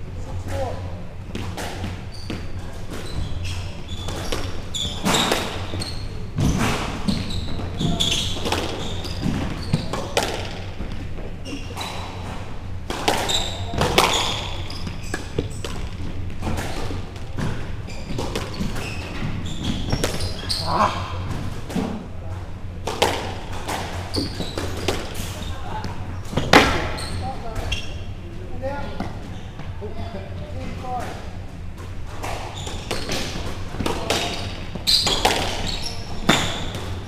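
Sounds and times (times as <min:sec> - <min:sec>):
shoes squeaking on court floor: 0:00.4 - 0:37.0
squash ball hitting rackets and walls: 0:00.5 - 0:27.8, 0:30.8 - 0:37.0.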